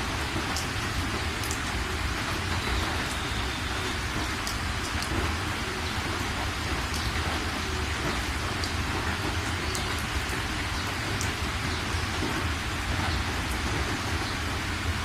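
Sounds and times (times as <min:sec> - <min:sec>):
drops and drips ticking: 0:00.0 - 0:15.0
steady rain falling: 0:00.0 - 0:15.0.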